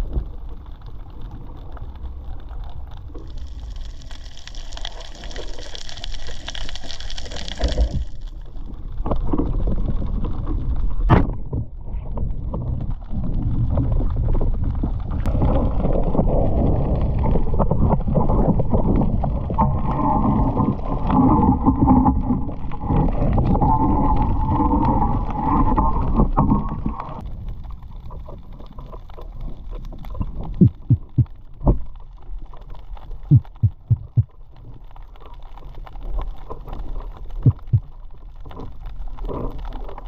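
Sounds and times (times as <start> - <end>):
water sloshing and gurgling: 0.0 - 40.0.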